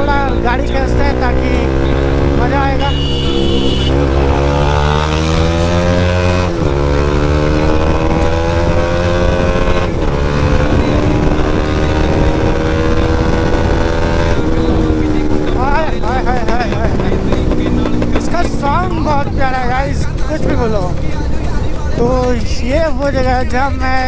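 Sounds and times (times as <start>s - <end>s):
motorcycle engine accelerating: 0.0s - 22.3s.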